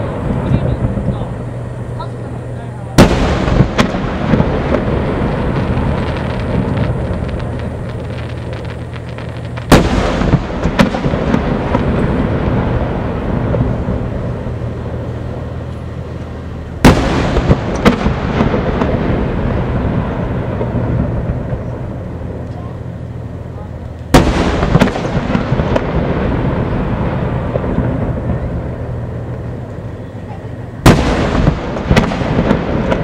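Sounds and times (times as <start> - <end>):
fireworks rumbling and crackling: 0.0 - 33.0
loud sharp firework bangs: 0.0 - 33.0.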